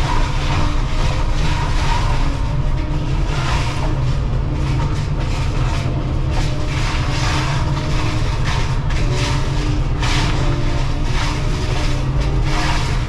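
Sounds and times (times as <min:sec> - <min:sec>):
excavator engine and hydraulics: 0:00.0 - 0:13.0
mulcher shredding wood: 0:00.0 - 0:13.0.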